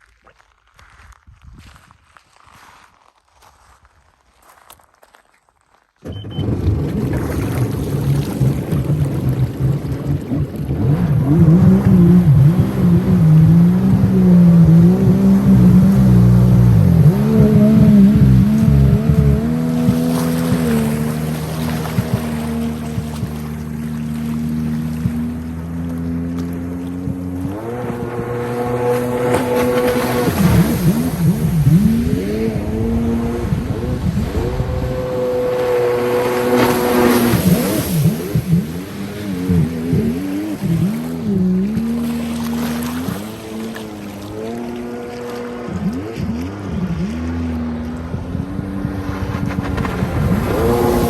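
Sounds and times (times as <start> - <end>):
jet ski engine running: 6.0 - 51.0.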